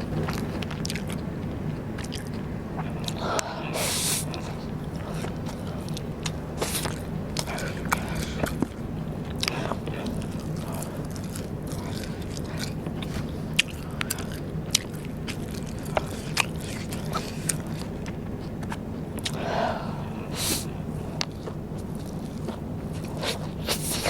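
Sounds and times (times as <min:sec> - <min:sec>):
chewing with crisp crunches: 0:00.0 - 0:24.0
low steady hum: 0:00.0 - 0:24.0.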